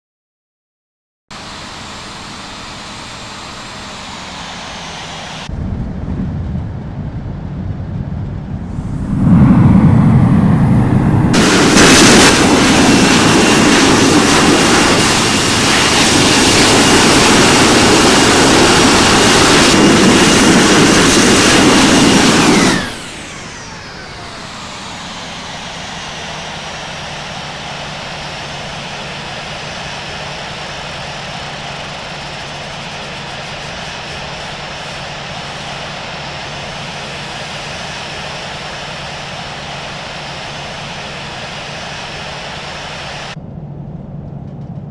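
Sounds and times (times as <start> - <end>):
jet engines reverse thrust roar: 1.3 - 44.9
jet engines spooling down: 1.4 - 44.8.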